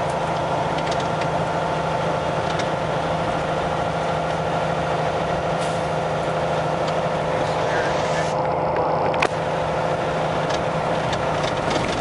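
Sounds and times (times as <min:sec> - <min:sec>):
road noise: 0:00.0 - 0:12.0
truck diesel engine running: 0:00.0 - 0:12.0.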